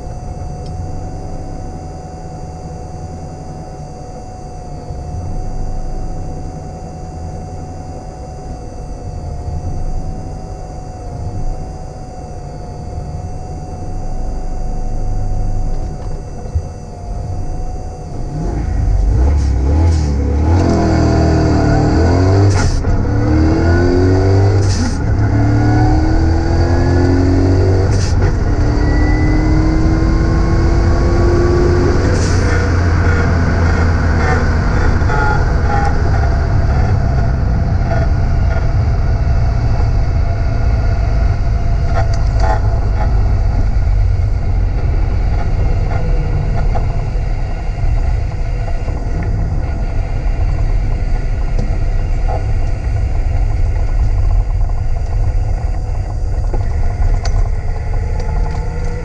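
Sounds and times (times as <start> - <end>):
road and wind noise: 0.0 - 59.0
sports car engine accelerating: 0.0 - 59.0.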